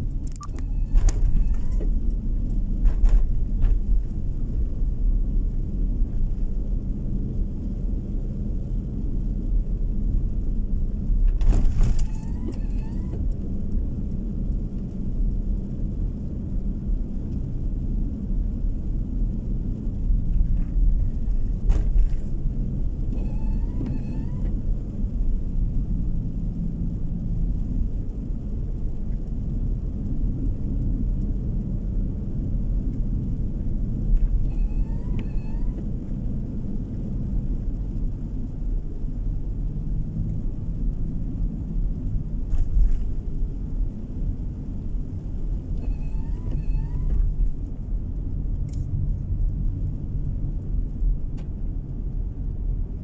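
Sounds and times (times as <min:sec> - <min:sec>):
car tyres and engine rumble: 0:00.0 - 0:53.0.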